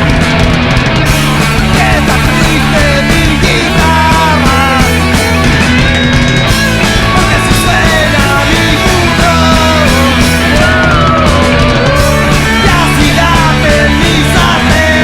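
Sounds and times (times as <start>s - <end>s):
bending lead guitar melody: 0.0s - 15.0s
punk rock band playing: 0.0s - 15.0s.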